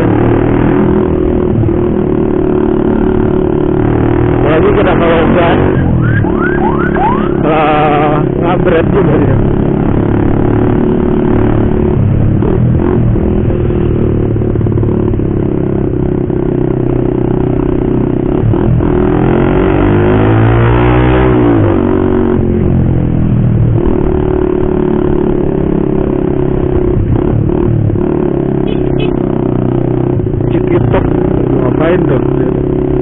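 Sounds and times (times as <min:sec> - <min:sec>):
motorcycle with racing exhaust: 0:00.0 - 0:33.0.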